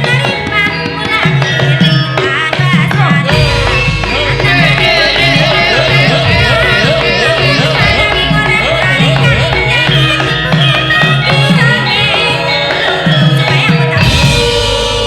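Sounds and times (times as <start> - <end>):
gamelan ensemble playing: 0.0 - 15.0
hand drum pitch glides: 0.0 - 15.0.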